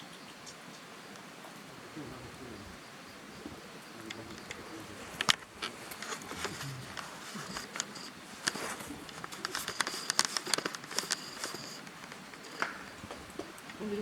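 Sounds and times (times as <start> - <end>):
campfire crackling and popping: 0.1 - 13.8.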